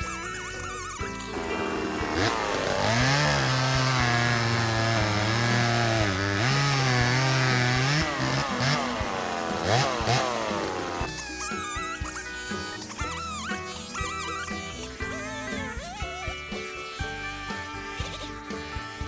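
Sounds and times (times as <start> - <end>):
chainsaw cutting wood: 0.0 - 15.6.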